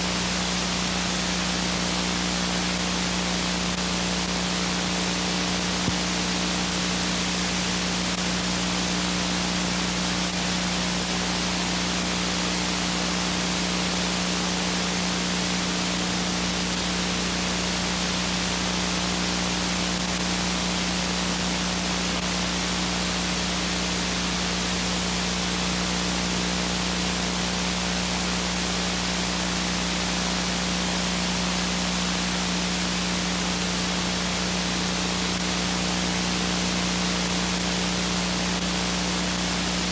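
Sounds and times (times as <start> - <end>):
videotape hiss: 0.0 - 39.9.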